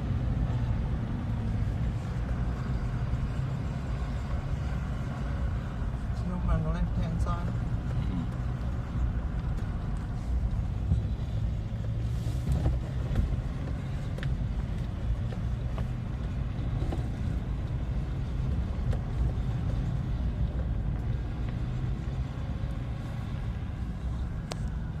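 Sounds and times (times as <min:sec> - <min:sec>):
off-road vehicle engine droning: 0:00.0 - 0:25.0.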